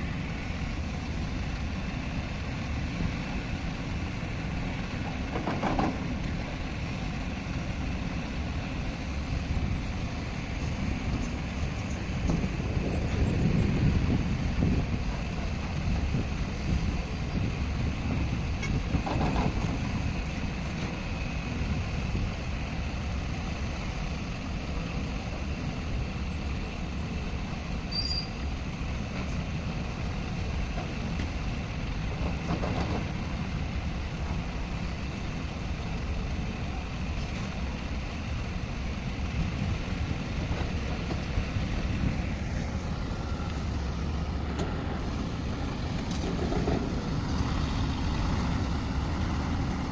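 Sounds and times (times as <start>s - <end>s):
diesel engine rumble under load: 0.0s - 49.9s.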